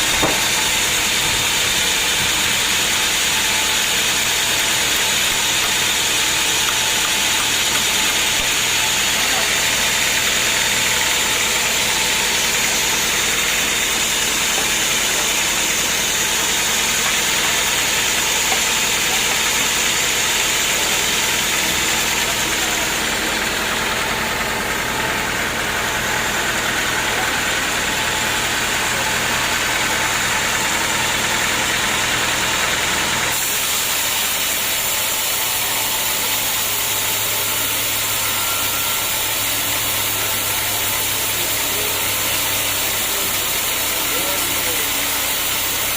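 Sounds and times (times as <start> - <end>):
engine-driven sawmill running: 0.0 - 45.9.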